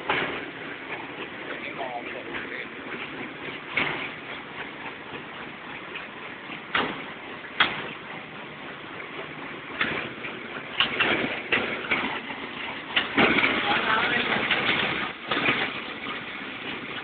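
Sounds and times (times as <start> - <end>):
machine clicks and knocks: 0.0 - 1.7, 2.3 - 8.4, 9.1 - 17.0
machine running: 0.0 - 17.0.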